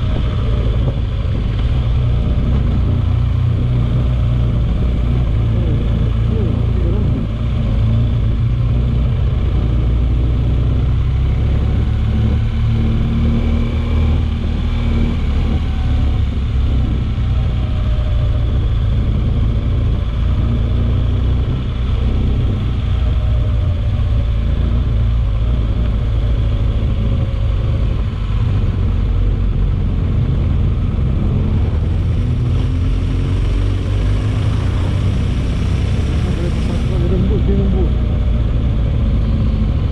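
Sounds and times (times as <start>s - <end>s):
faint engine tones: 0.0s - 9.6s, 15.1s - 39.9s
moving vehicle rumble: 0.0s - 39.9s.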